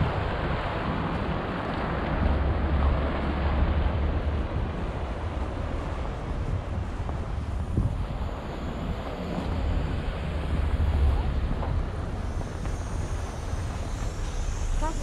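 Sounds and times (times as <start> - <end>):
low rumble of city street: 0.0 - 15.0.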